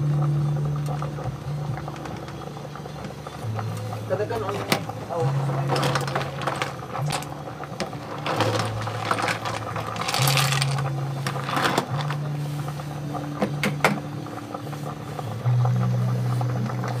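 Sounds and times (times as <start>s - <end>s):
background music low notes: 0.0s - 17.0s.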